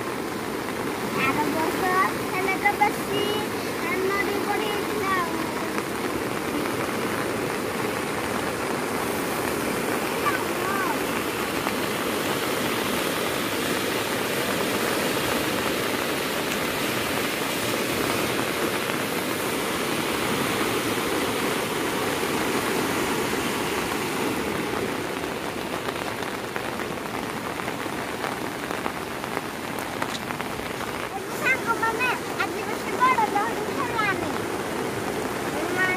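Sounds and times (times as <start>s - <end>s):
rain: 0.0s - 35.9s
river rushing: 0.0s - 35.9s.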